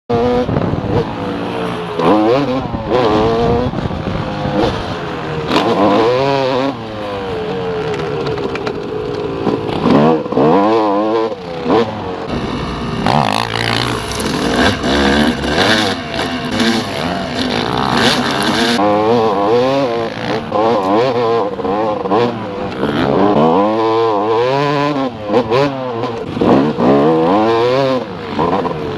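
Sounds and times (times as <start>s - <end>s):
dirt bike engines revving: 0.1s - 28.9s.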